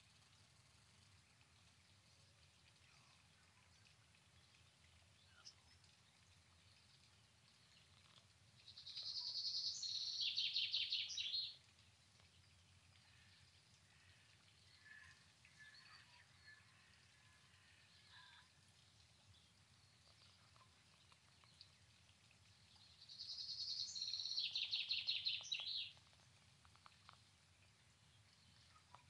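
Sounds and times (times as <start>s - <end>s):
low background noise: 0.0s - 29.0s
songbird singing: 3.8s - 13.2s, 14.4s - 29.0s.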